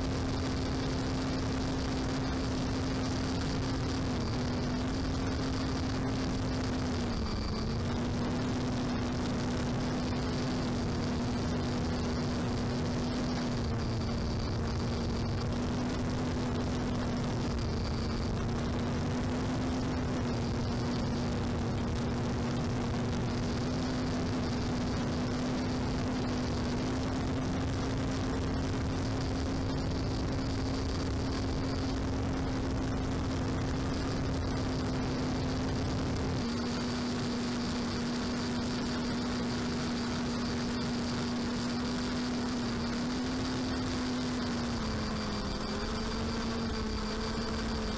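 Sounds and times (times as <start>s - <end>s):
drone motor hum: 0.0s - 47.9s.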